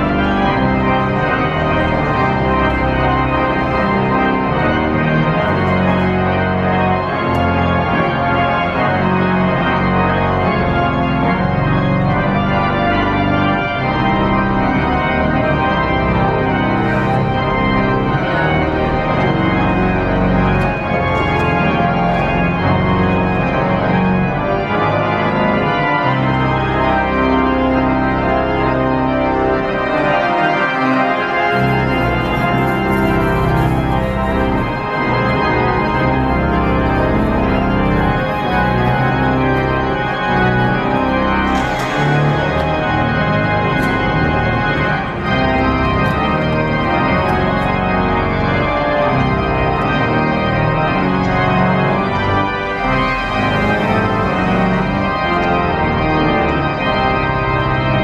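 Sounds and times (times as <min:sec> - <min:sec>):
sustained organ-like keyboard chords: 0:00.0 - 0:58.0.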